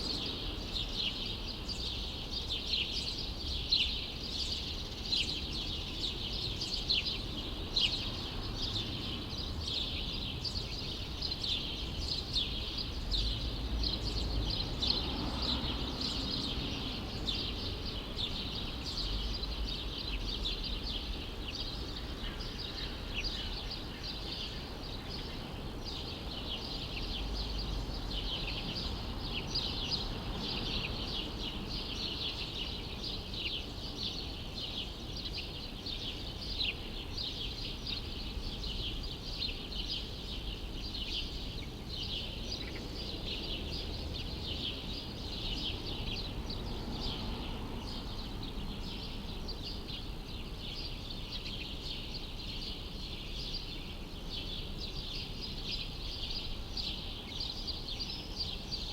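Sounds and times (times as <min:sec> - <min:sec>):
low city rumble: 0:00.0 - 0:58.9
small birds chirping: 0:00.0 - 0:58.9.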